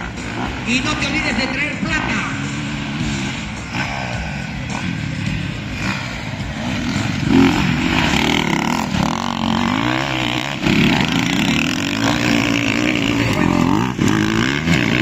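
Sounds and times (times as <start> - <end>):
motocross motorcycle engines revving: 0.0 - 15.0.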